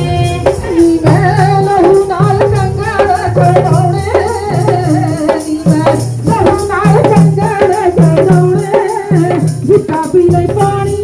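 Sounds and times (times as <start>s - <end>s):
person singing a hymn: 0.0s - 11.0s
repeating drum beat: 0.0s - 11.0s.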